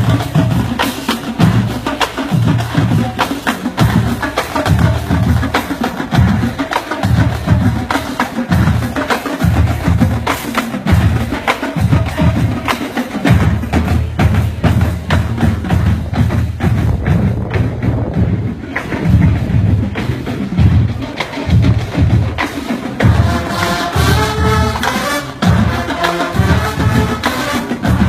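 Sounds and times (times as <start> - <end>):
marching band playing funk: 0.0 - 28.0.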